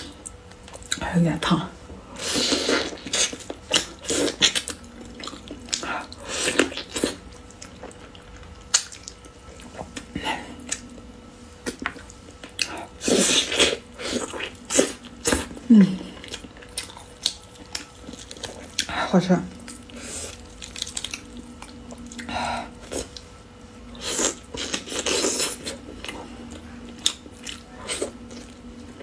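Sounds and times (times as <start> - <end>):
wet chewing: 2.2 - 29.0.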